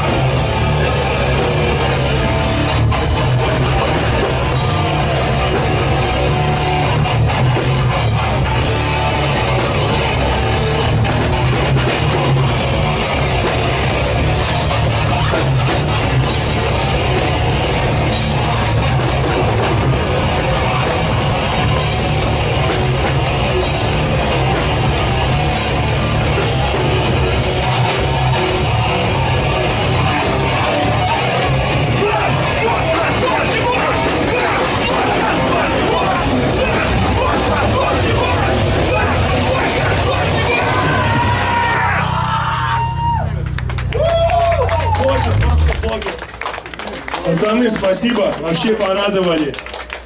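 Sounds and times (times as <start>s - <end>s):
live rock band playing: 0.0s - 50.0s.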